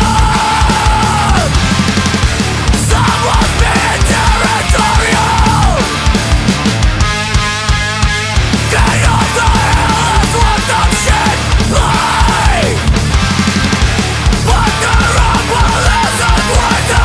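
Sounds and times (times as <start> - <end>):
loud rock music: 0.0 - 17.0
pounding drum beat: 0.0 - 17.0.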